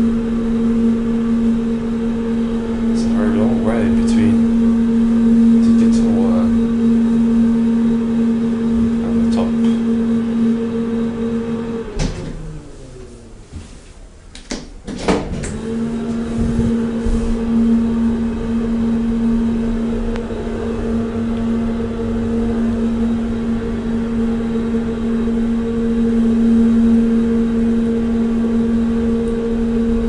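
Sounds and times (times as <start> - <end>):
elevator pump motor humming: 0.0 - 30.0.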